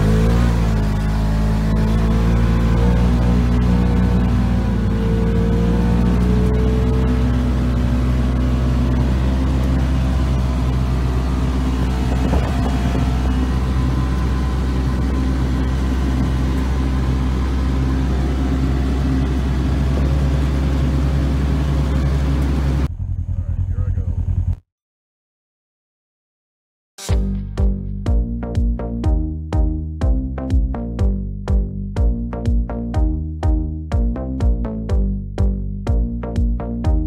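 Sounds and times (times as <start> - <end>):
vehicle engine running: 0.0 - 24.6, 27.2 - 37.0.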